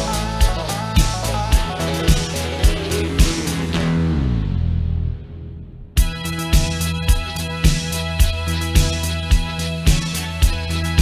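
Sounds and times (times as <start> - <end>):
music with sharp beat: 0.0 - 4.2, 6.0 - 11.0.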